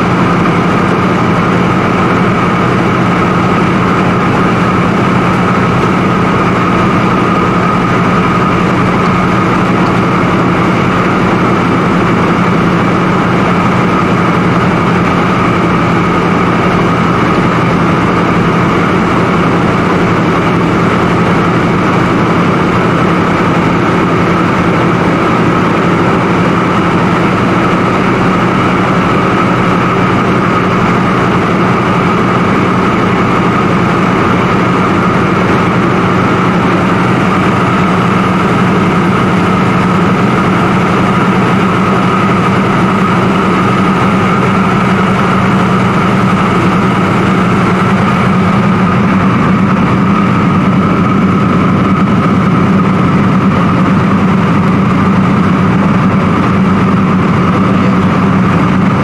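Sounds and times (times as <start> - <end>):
propeller plane engines droning: 0.0 - 59.0.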